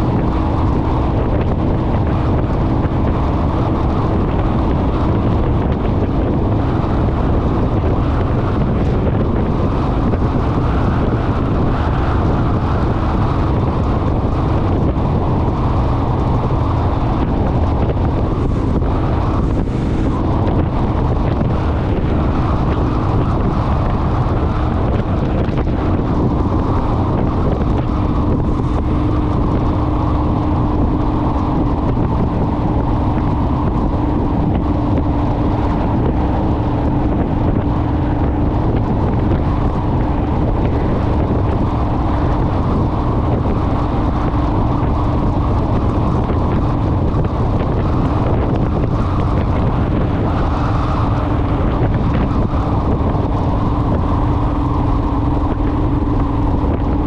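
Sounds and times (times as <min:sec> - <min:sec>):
motorcycle engine hum: 0:00.0 - 0:57.0
wind rushing over microphone: 0:00.0 - 0:57.0.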